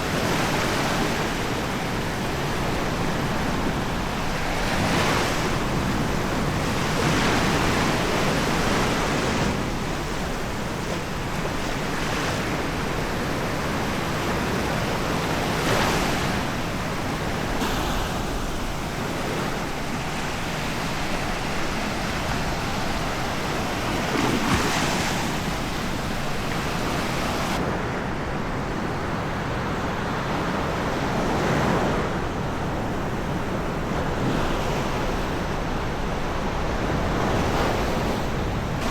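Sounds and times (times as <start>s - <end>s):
waves breaking on a beach: 0.0s - 38.9s
wind: 0.0s - 38.9s.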